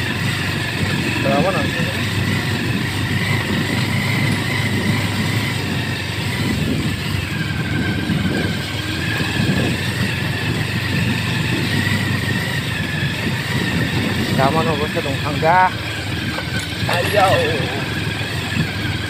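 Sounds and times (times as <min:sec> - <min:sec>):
motorcycle engine rumbling: 0:00.0 - 0:19.0
road noise on dirt: 0:00.0 - 0:19.0.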